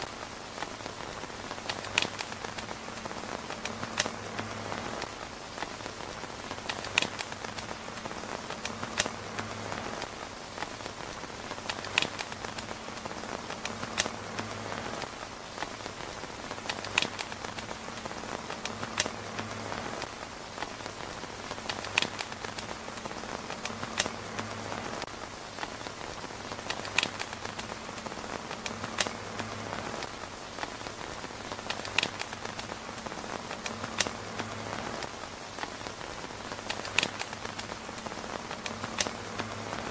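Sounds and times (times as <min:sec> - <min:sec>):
rain on tent fabric: 0:00.0 - 0:39.9
sharp clicks: 0:00.0 - 0:39.9.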